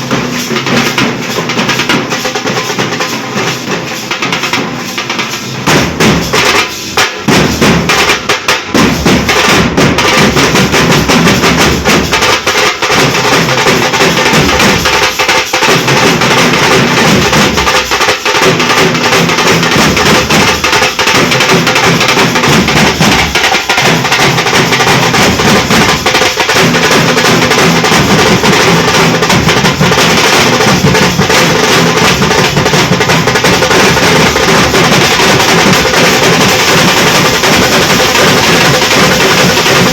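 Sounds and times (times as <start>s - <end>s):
barrel drums beaten fast: 0.0s - 39.9s.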